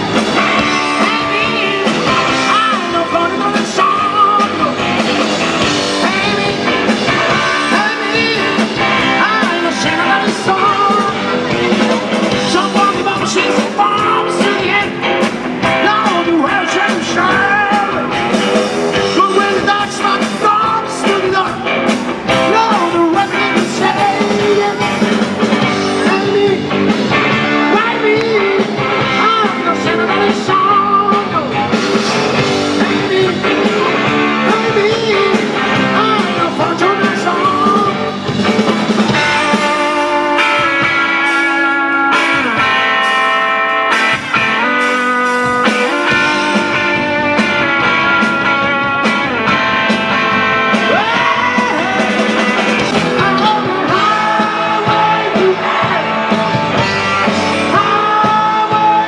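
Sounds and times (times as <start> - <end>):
drum kit: 0.0 - 59.0
electric guitar: 0.0 - 59.0
live rock and roll band: 0.0 - 59.0.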